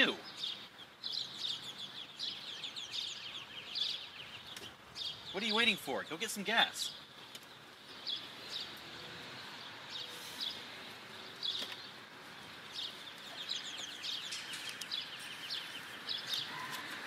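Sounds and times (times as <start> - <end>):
outdoor background hiss: 0.0 - 17.0
small birds chirping: 0.0 - 17.0.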